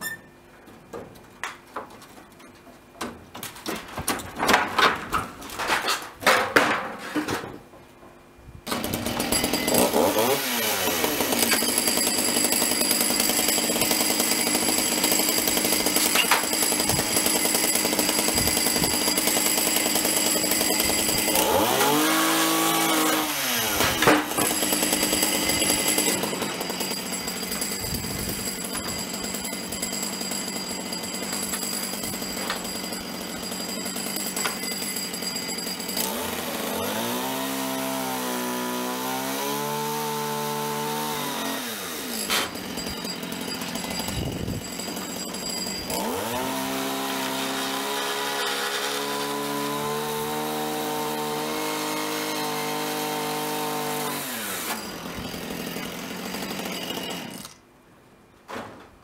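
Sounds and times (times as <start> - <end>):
chainsaw running: 8.6 - 57.6.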